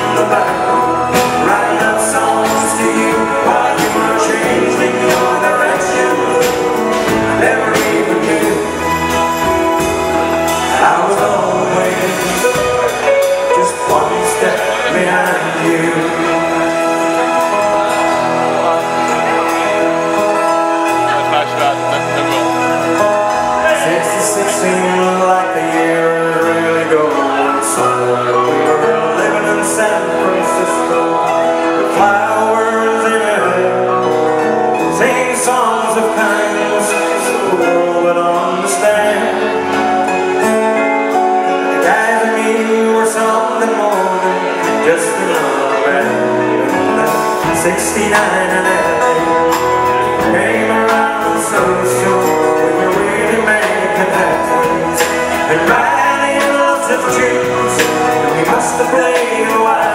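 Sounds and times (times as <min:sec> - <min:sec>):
live band playing: 0:00.0 - 0:59.9
man singing: 0:00.0 - 0:59.9.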